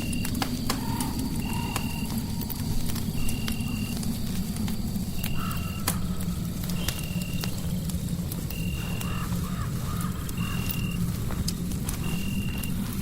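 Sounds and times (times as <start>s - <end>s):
fireplace crackling: 0.0s - 13.0s.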